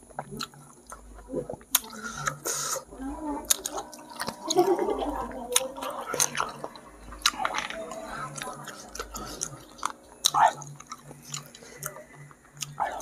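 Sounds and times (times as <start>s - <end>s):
man chewing wetly: 0.0s - 4.6s, 5.5s - 13.0s.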